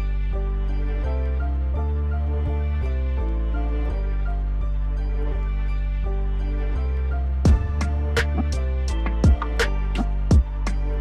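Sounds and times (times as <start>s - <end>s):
soft slow music sustained notes: 0.0s - 11.0s
steady low bass: 0.0s - 11.0s.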